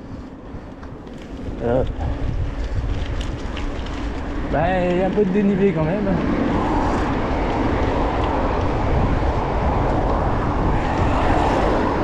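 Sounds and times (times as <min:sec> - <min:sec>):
road traffic: 0:00.0 - 0:12.0
wind buffeting microphone: 0:00.4 - 0:12.0.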